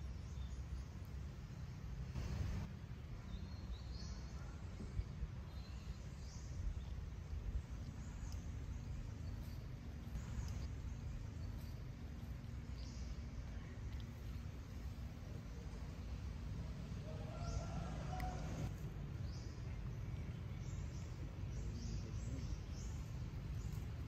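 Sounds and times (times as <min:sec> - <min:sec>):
low rumble: 0:04.6 - 0:24.0.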